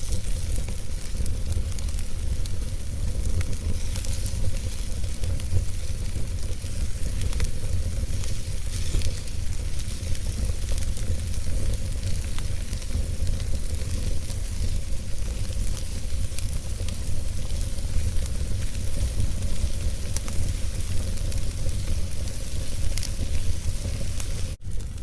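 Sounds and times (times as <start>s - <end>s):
fire crackling and popping: 0.0s - 25.0s
fireplace fire rumble and hiss: 0.0s - 25.0s.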